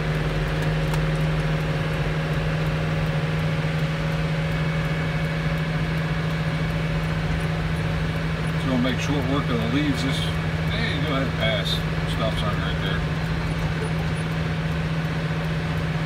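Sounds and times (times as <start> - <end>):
road and tyre noise: 0.0 - 16.0
vehicle engine drone: 0.0 - 16.0.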